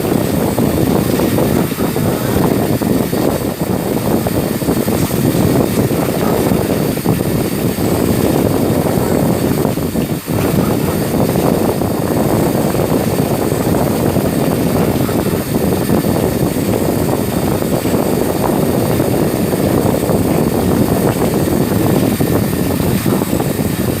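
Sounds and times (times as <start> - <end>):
milling machine running: 0.0 - 24.0.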